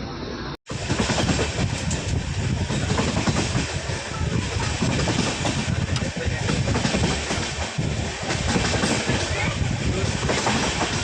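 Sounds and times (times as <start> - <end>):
train wheels rumbling on rails: 0.7 - 11.0.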